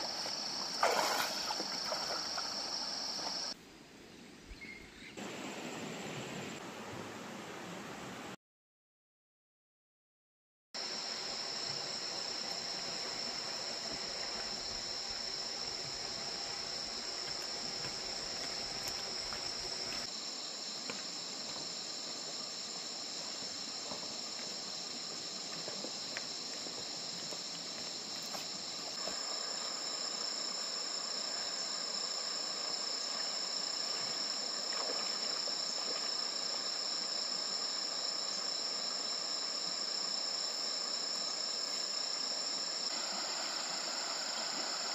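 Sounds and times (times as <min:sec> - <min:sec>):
insects trilling: 0:00.0 - 0:03.6, 0:10.8 - 0:44.9.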